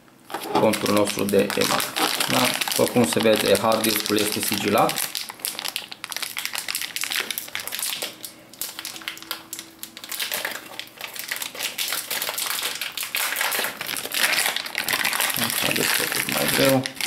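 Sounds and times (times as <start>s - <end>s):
plastic bag crinkling: 0.3s - 17.0s.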